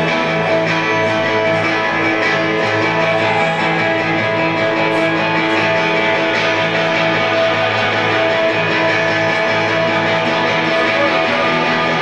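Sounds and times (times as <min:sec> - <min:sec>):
strummed guitar chords: 0:00.0 - 0:12.0.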